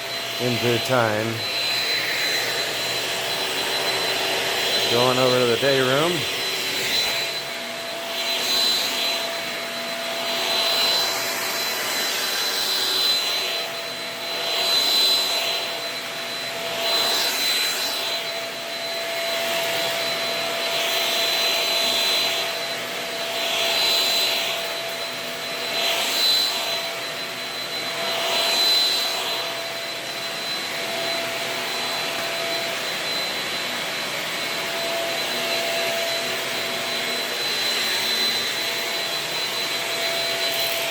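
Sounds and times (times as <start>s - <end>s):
stick vacuum whining: 0.0s - 40.9s.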